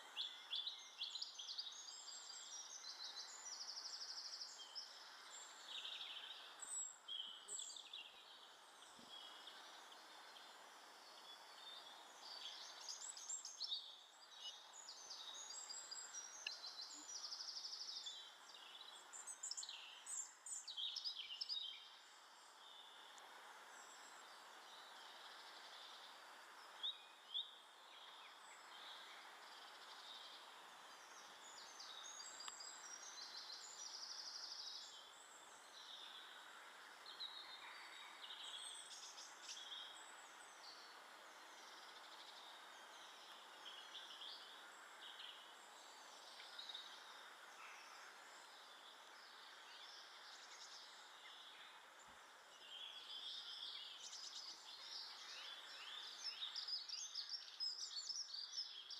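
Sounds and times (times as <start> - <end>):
steady outdoor hiss: 0.0 - 58.9.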